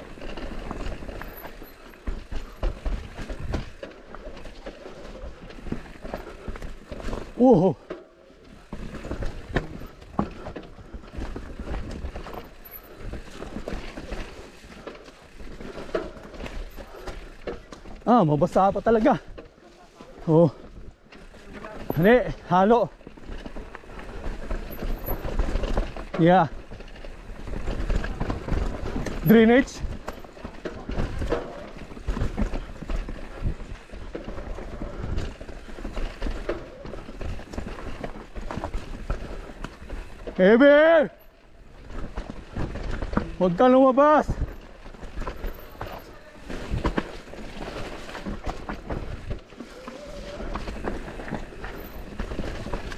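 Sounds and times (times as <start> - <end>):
bike knocking and rattling: 0.0 - 52.9
tyres rolling over dirt: 0.0 - 52.9.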